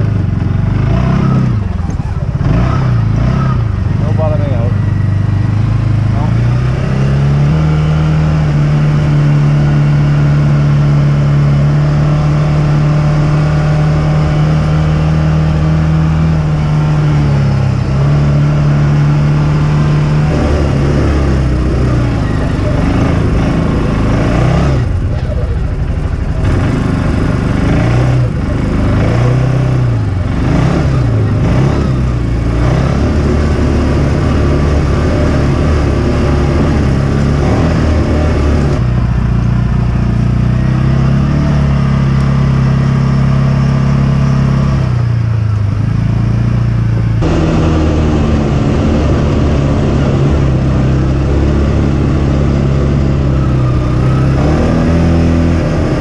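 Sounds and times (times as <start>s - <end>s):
off-road vehicle engine under load: 0.0s - 56.0s.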